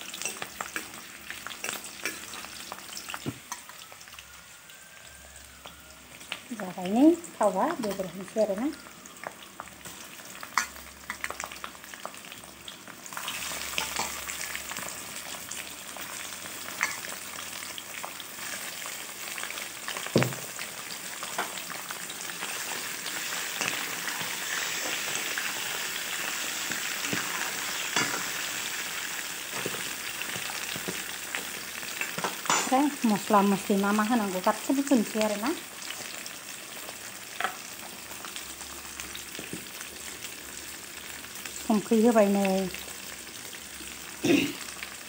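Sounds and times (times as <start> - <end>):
meat sizzling in hot oil: 0.0 - 45.0.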